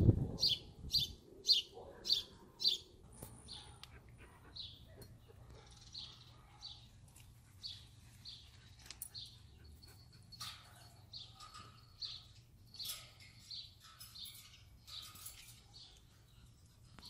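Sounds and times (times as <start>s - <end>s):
bird chirping softly: 0.4s - 17.0s.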